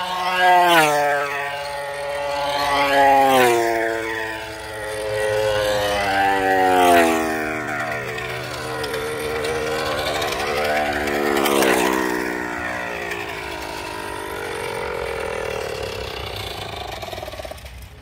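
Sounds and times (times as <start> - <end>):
small model engine running: 0.0 - 18.0.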